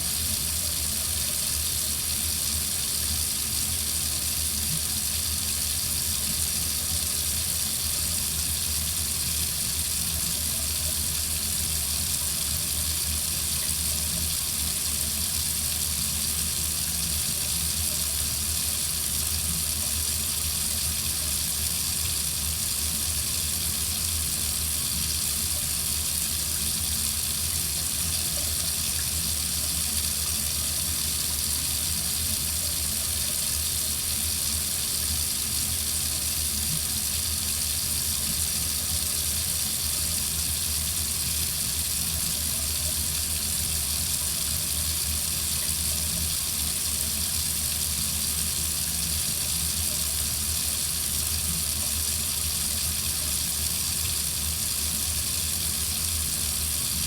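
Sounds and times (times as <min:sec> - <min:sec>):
water faucet running: 0:00.0 - 0:57.0.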